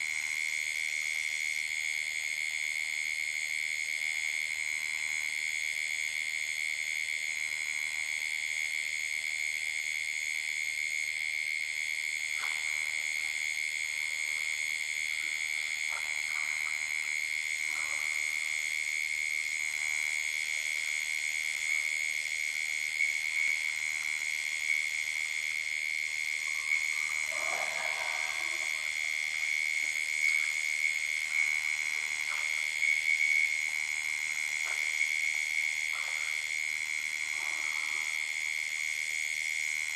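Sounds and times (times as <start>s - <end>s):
insects and frogs chorus: 0.0s - 39.9s.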